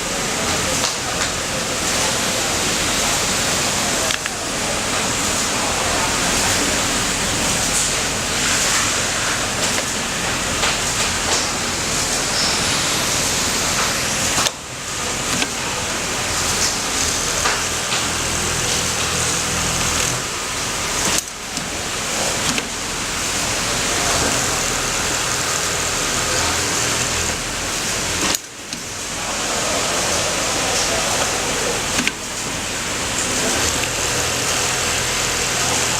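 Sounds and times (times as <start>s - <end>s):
sewing machine running: 0.2s - 35.9s.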